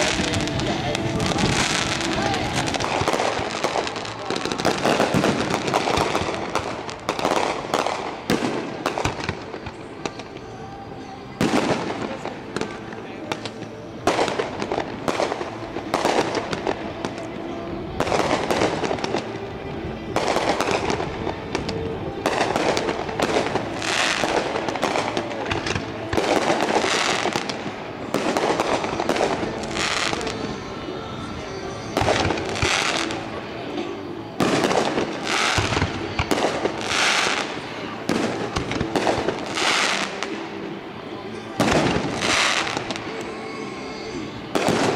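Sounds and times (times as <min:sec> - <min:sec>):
fireworks crackling: 0:00.0 - 0:44.9.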